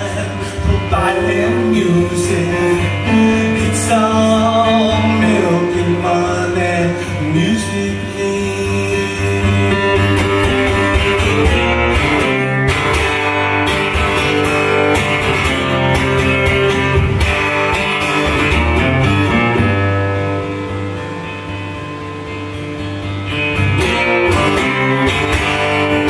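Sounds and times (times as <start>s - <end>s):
guitar strummed and picked: 0.0s - 26.0s.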